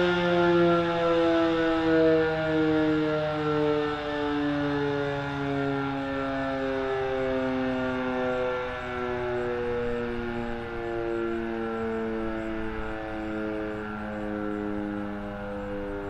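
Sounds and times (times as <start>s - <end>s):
warning siren chord: 0.0s - 16.0s.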